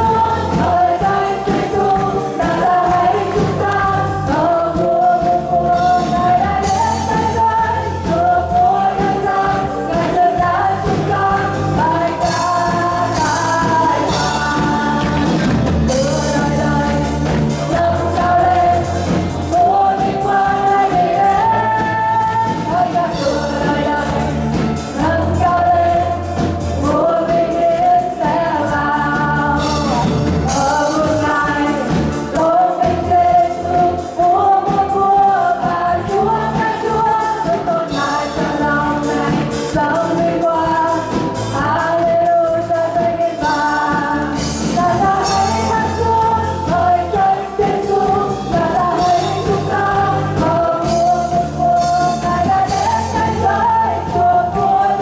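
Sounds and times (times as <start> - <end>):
church band with drums: 0.0 - 55.0
men and women singing: 0.0 - 55.0.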